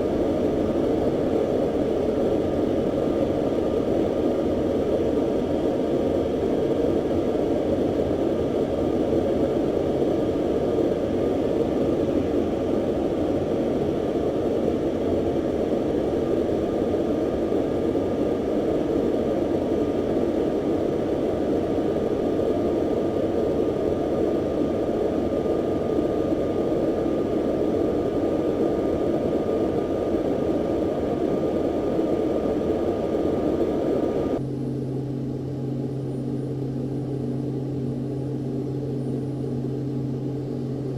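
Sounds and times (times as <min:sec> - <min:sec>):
aircraft engine running: 0:00.0 - 0:40.9.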